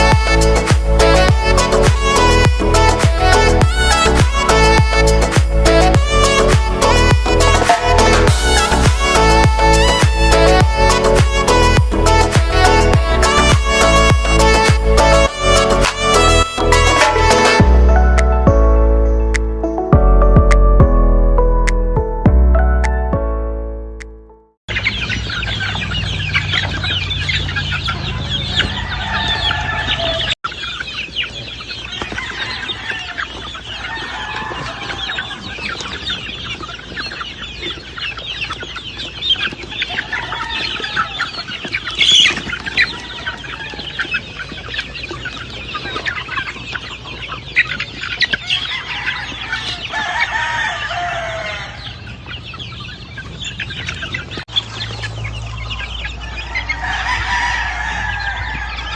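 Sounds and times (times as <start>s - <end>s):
roosters crowing: 0.0s - 17.7s, 24.7s - 58.9s
chickens clucking: 0.0s - 19.7s, 24.7s - 58.9s.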